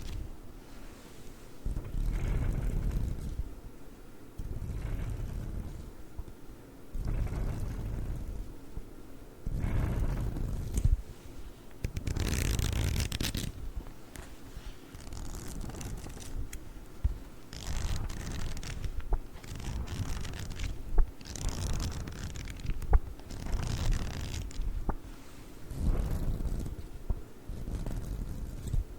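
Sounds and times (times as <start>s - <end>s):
scratching and rustling: 0.0s - 3.7s, 4.3s - 28.9s.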